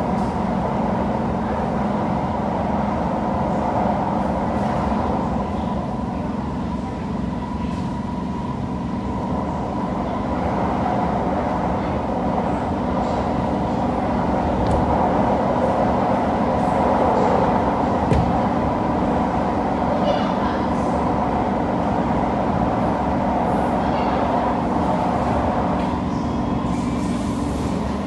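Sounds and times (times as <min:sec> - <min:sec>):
metro train wheels rumbling on rail: 0:00.0 - 0:28.0.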